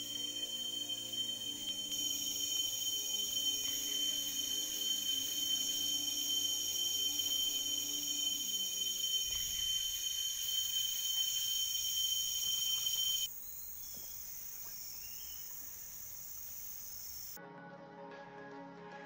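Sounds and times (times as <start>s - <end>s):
faint insect chorus: 0.0s - 17.4s
insects trilling: 0.0s - 17.4s.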